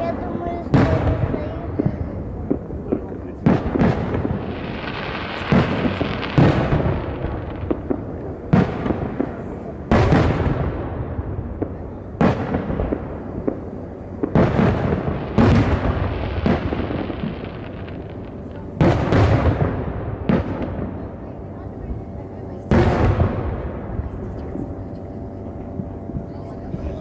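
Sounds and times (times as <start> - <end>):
firework shells booming: 0.0 - 26.9.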